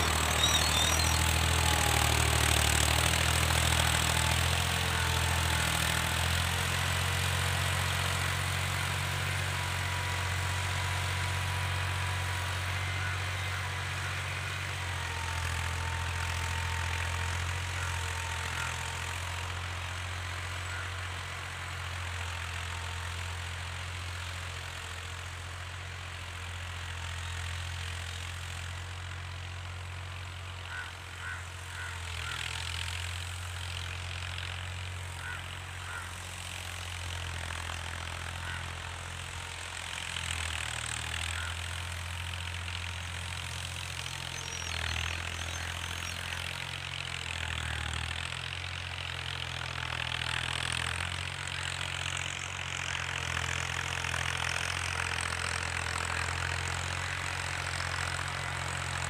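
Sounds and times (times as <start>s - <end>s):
distant tractor engine droning: 0.0s - 59.0s.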